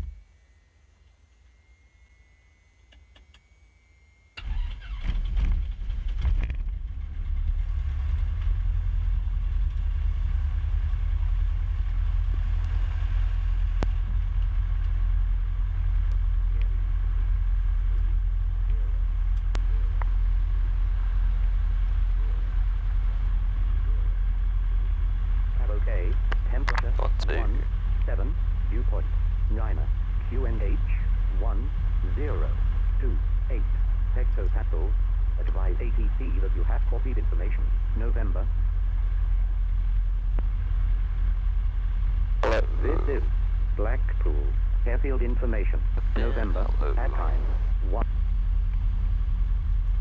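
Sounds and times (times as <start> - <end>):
aircraft engine starting and idling: 0.0 - 50.0.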